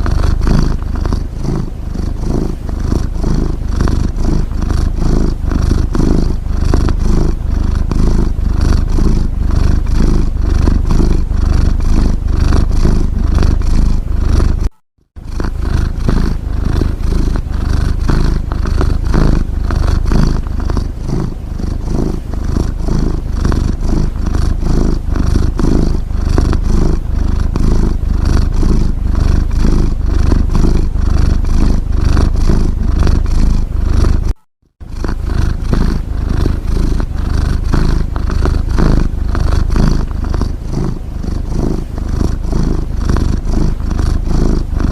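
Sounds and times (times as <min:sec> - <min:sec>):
cat snoring: 0:00.0 - 0:44.9.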